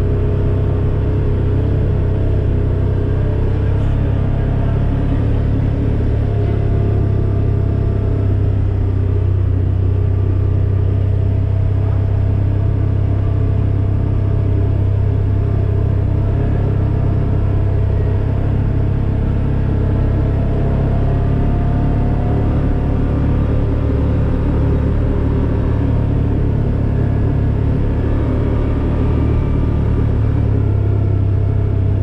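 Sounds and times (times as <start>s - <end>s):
low road rumble: 0.0s - 32.0s
vehicle engine running: 0.0s - 32.0s.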